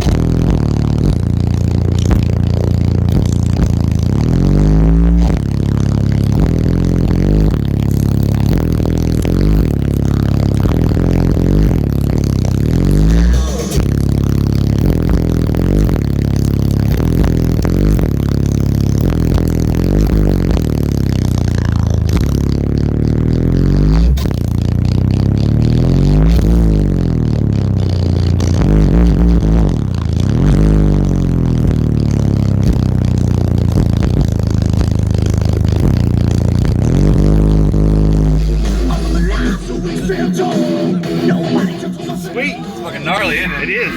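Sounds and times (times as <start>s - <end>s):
bass-heavy music from car subwoofers: 0.0s - 43.9s.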